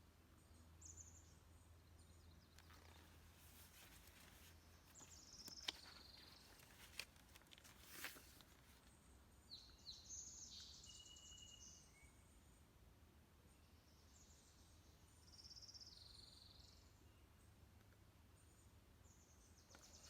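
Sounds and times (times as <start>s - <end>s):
small birds chirping: 0.0s - 12.8s, 13.4s - 20.0s.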